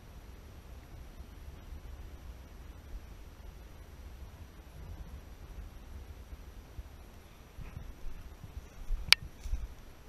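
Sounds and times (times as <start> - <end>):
light hiss: 0.0 - 10.0
low wind rumble: 0.0 - 10.0.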